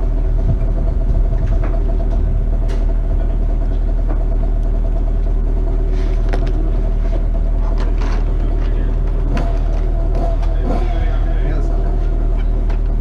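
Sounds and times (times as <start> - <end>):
engine running steadily: 0.0 - 13.0
heavy low rumble: 0.0 - 13.0.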